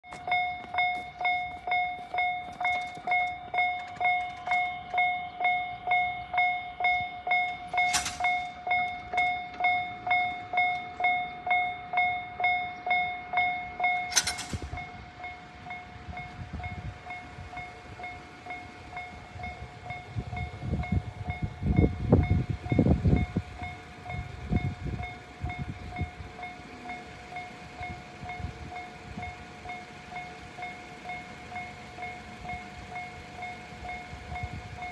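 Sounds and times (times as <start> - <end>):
level crossing warning bell dinging: 0.0 - 34.9.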